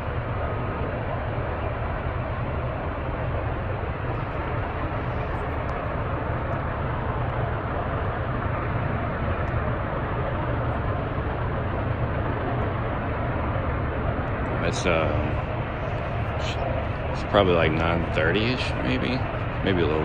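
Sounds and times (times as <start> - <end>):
power plant rumble: 0.0 - 20.0.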